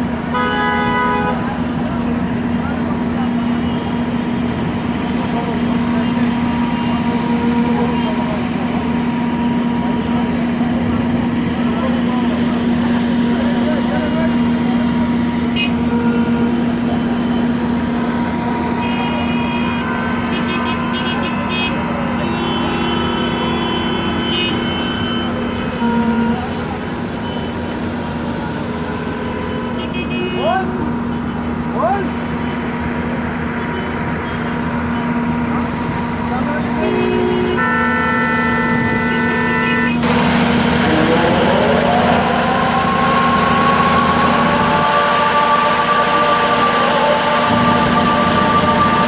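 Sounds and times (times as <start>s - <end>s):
road traffic engines: 0.0s - 49.0s.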